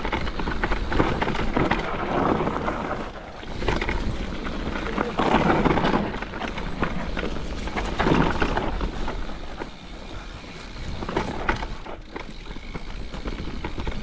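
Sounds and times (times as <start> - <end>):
bike knocking and rattling: 0.0 - 14.0
tyres rumbling on dirt trail: 0.0 - 14.0.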